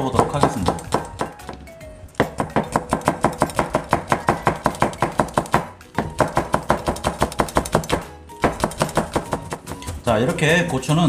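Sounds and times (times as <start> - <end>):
knife chopping on cutting board: 0.0 - 11.0.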